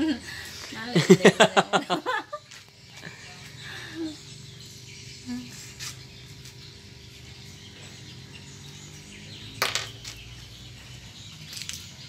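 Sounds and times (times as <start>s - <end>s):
steady low hum: 0.0s - 11.5s
faint birds chirping: 0.0s - 12.0s.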